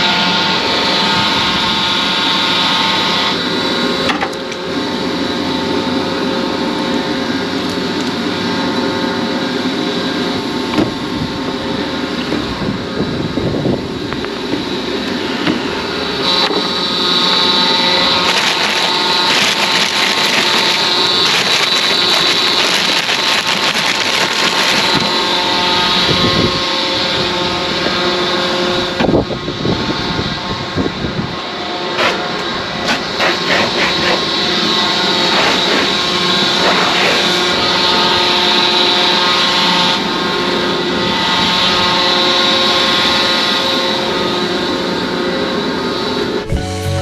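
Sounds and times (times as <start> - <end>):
truck engine whine and hum: 0.0 - 47.0.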